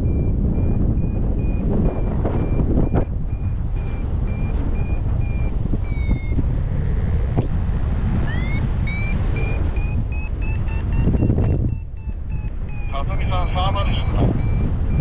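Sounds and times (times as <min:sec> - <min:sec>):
variometer beeping: 0:00.0 - 0:15.0
wind rushing on microphone: 0:00.0 - 0:15.0.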